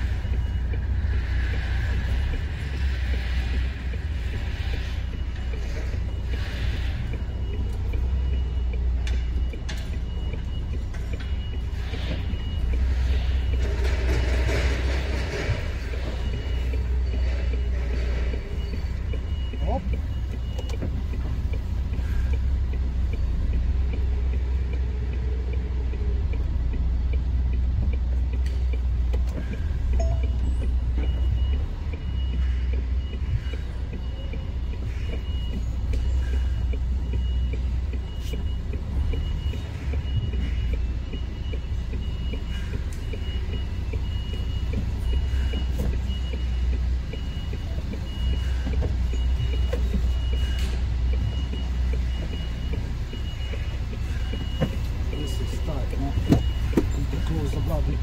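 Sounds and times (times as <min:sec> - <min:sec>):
diesel engine running: 0:00.0 - 0:58.0
reversing alarm beeps: 0:00.0 - 0:58.0.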